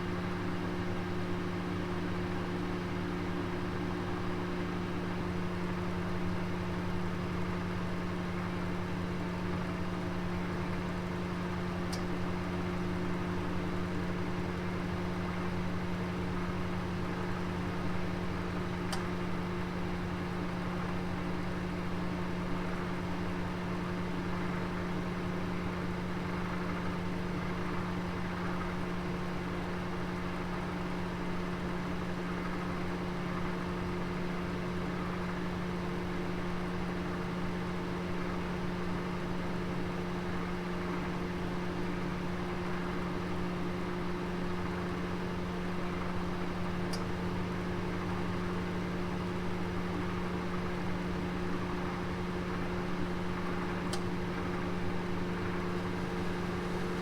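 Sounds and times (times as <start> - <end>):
oven fan humming: 0.0 - 57.0.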